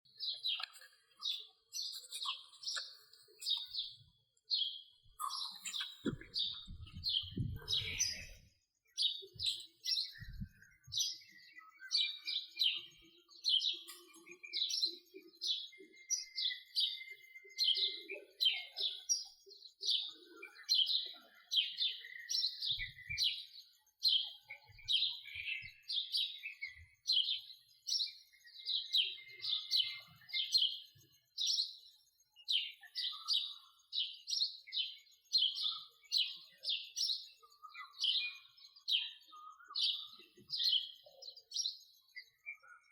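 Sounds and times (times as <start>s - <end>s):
sparrow chirping: 0.1s - 42.9s.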